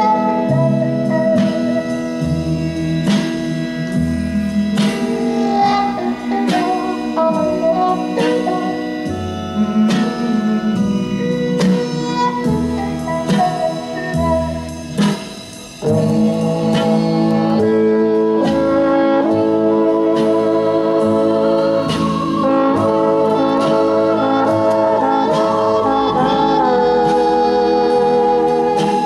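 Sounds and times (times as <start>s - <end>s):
instrumental music through speakers: 0.0s - 29.0s.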